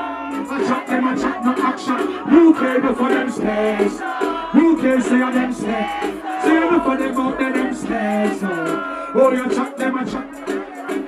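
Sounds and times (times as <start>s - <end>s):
dancehall music with singing: 0.0s - 11.0s.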